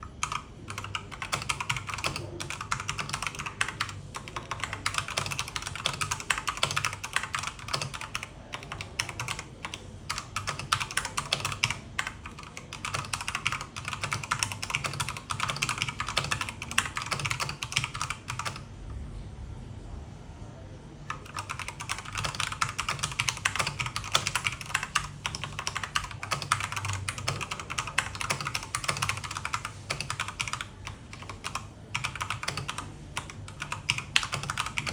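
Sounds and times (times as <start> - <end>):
low steady hum: 0.0 - 34.9.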